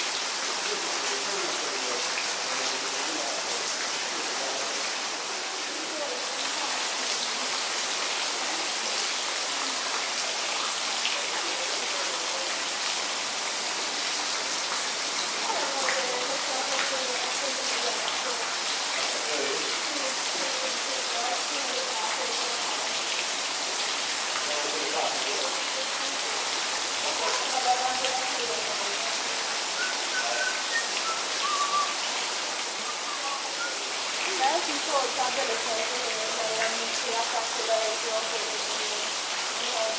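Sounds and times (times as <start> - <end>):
fountain splashing into pond: 0.0 - 39.9.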